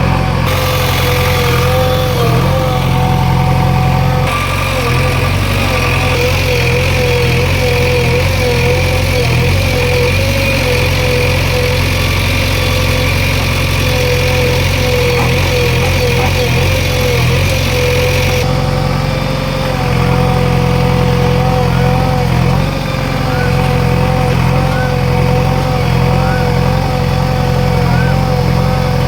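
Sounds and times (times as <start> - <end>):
diesel engine running: 0.0 - 29.0
wavering whine: 0.0 - 29.0.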